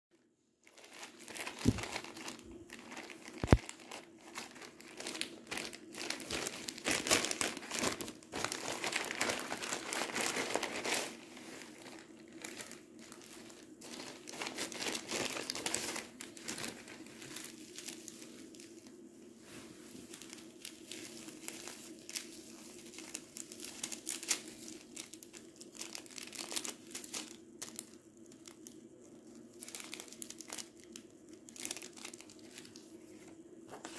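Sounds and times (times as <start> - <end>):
plastic packaging crinkling: 0.6 - 33.9.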